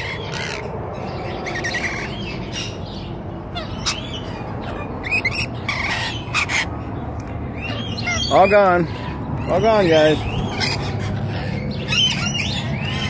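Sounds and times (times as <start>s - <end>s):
lorikeets chirping: 0.0s - 13.0s.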